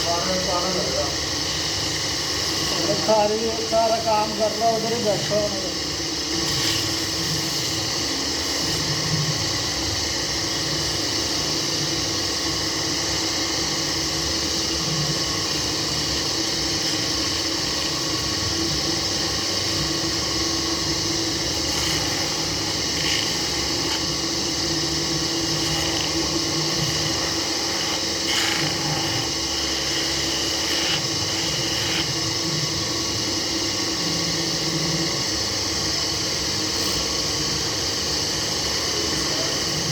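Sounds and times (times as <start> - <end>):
wood lathe humming: 0.0 - 39.9.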